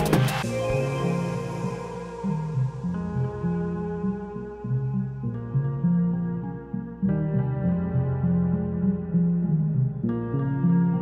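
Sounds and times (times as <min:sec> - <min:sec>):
held tones over bass line: 0:00.0 - 0:11.0.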